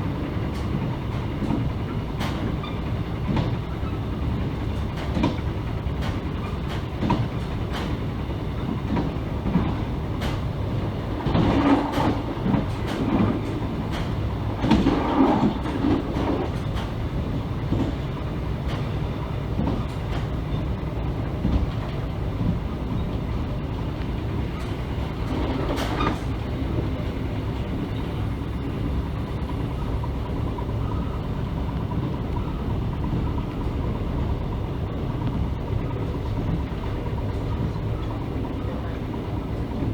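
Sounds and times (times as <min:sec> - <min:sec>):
train rumbling along track: 0:00.0 - 0:39.9
wheels clicking over rail joints: 0:00.3 - 0:39.9.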